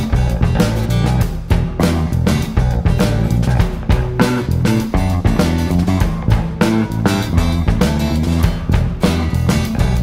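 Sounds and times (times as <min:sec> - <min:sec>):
bass guitar: 0:00.0 - 0:10.0
drums playing steady beat: 0:00.0 - 0:10.0
guitar: 0:00.0 - 0:10.0.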